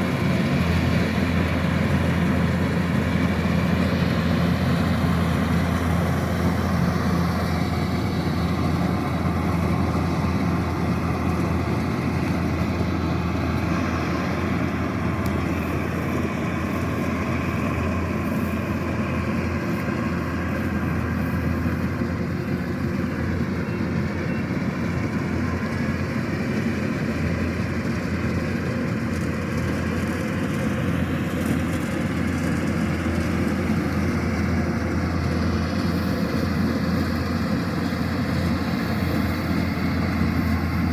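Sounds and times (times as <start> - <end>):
combine harvester engine droning: 0.0 - 40.9.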